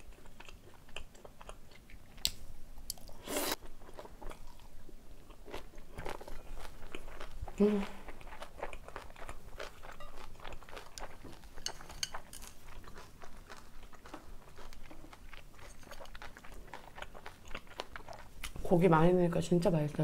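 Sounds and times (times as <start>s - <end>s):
person chewing: 0.0s - 18.6s.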